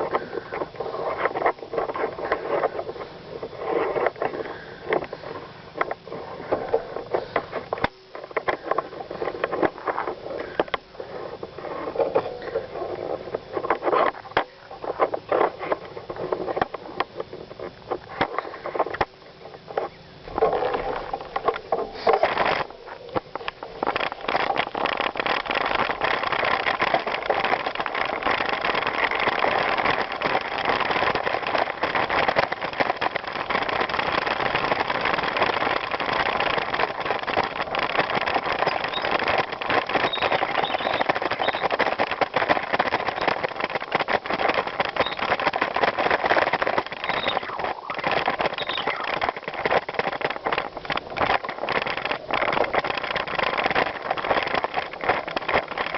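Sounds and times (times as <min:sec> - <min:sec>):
bicycle tyres crunching on trail: 0:00.0 - 0:55.9
bike rattles and clicks: 0:00.0 - 0:55.9.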